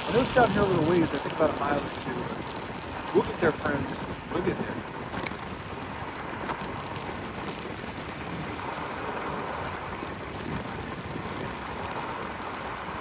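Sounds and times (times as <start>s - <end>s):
wheels on pavement: 0.0s - 13.0s
wind rushing across microphone: 0.0s - 13.0s.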